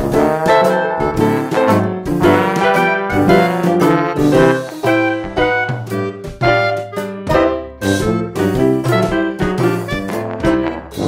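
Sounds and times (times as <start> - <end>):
upbeat jazz music with horns: 0.0 - 11.0.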